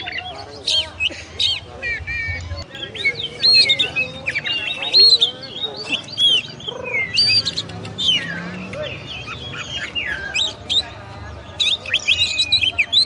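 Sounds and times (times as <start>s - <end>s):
magpie-robin singing: 0.0s - 13.0s.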